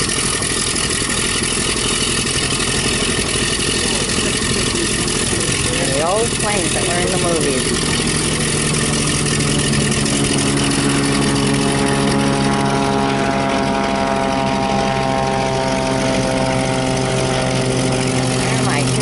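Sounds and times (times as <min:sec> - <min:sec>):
propeller aircraft engine droning: 0:00.0 - 0:19.0.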